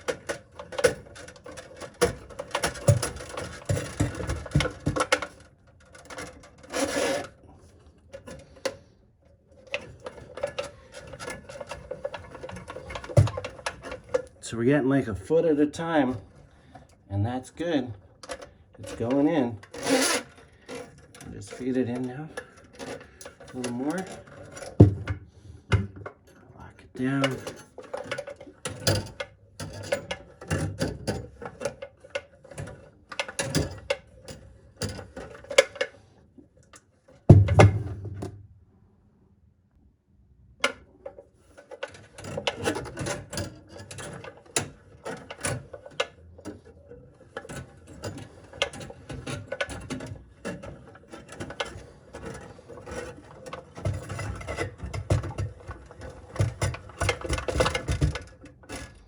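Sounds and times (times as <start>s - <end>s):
drain auger cable rattling: 0.0s - 8.9s, 9.6s - 36.0s, 41.1s - 59.0s.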